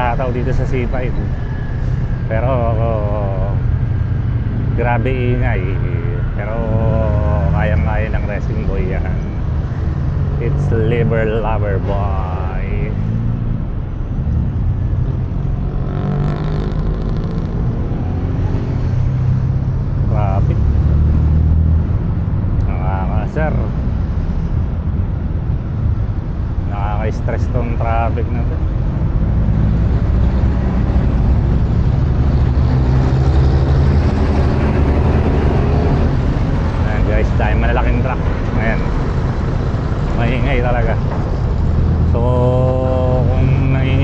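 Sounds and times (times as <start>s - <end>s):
passing vehicle engine: 0.0s - 44.0s
steady low engine hum: 0.0s - 44.0s.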